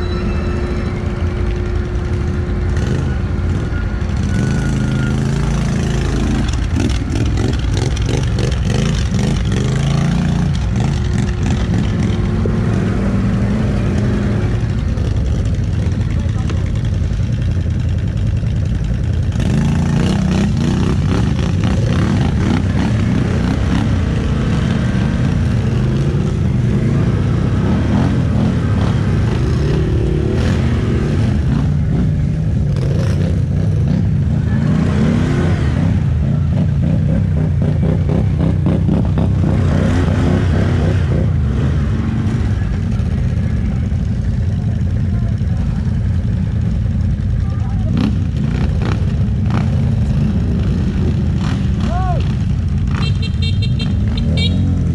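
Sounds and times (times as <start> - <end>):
atv engine revving: 1.3 - 54.9.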